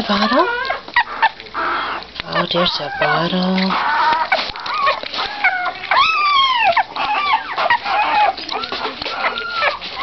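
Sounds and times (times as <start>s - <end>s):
puppies whining and squealing: 0.0s - 10.0s.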